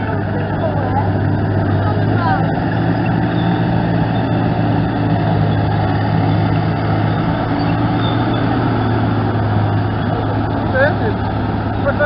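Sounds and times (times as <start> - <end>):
tracked vehicle engine: 0.0 - 12.0.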